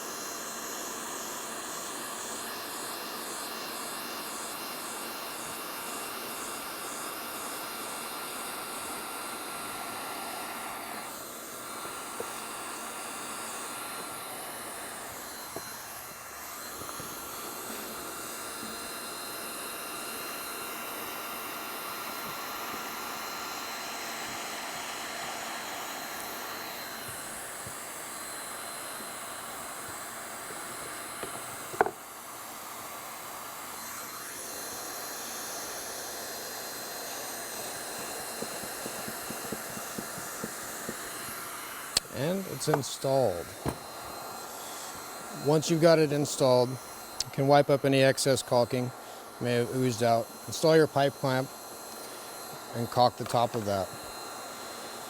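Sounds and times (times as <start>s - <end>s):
heat gun hissing: 0.0s - 55.0s.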